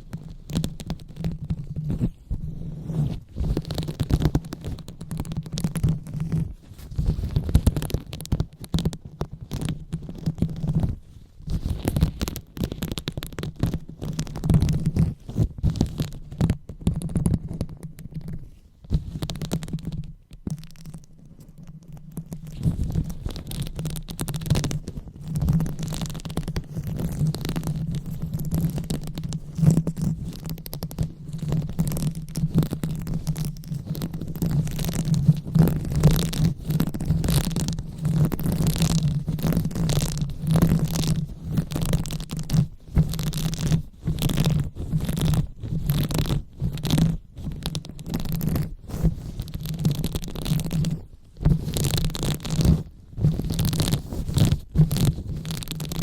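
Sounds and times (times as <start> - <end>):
fingers rubbing on microphone: 0.0 - 56.0.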